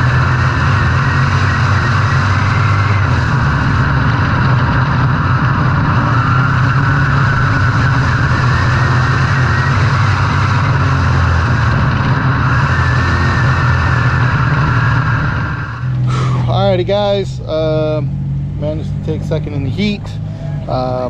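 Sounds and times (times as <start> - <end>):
race car engines running: 0.0 - 21.0.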